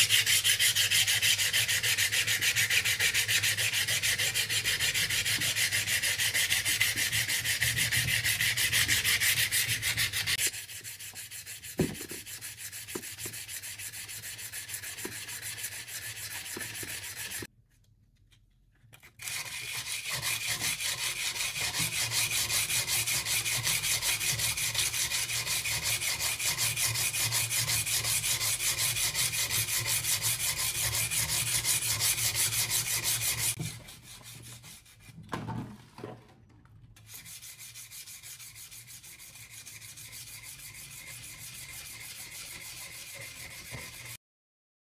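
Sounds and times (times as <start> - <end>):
sandpaper scraping metal blade: 0.0 - 17.5, 19.2 - 35.1, 37.1 - 44.2.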